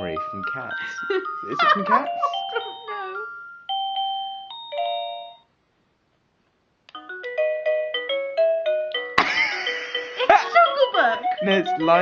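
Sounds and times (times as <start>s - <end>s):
electronic doorbell chime melody: 0.0s - 5.6s, 7.0s - 12.0s.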